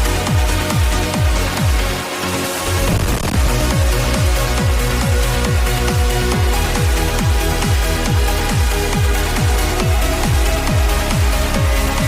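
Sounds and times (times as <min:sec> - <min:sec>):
kick drum: 0:00.0 - 0:01.9, 0:02.7 - 0:12.0
synth chords: 0:00.0 - 0:12.0
trance music: 0:00.0 - 0:12.0.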